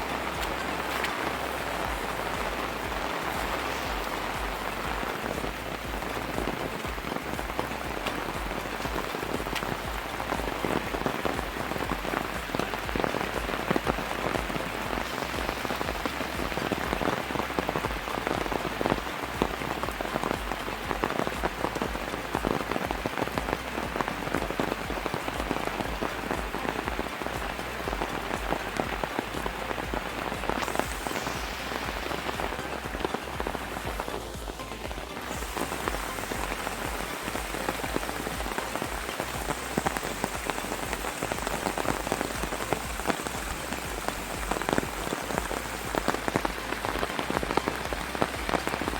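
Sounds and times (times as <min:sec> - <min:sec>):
rain on hard surfaces: 0:00.0 - 0:48.9.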